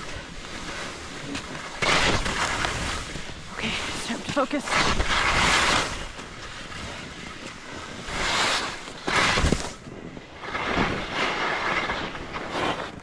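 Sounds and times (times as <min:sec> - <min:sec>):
skis scraping over snow: 0:00.0 - 0:13.0
wind rumbling on microphone: 0:00.0 - 0:13.0.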